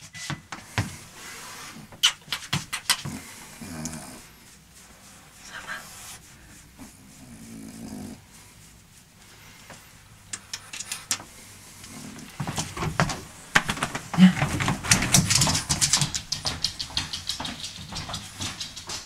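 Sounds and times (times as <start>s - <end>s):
dog snuffling: 0.8s - 19.0s.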